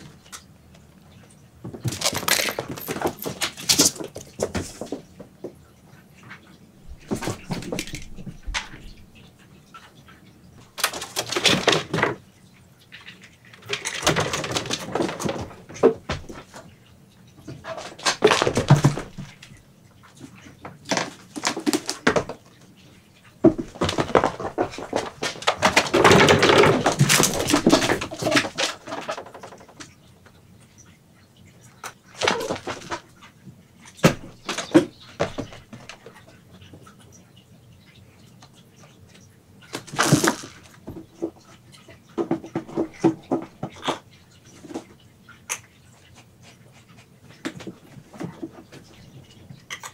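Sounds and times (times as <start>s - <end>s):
cats rustling and scratching: 0.0s - 30.4s, 31.5s - 37.3s, 38.3s - 49.9s.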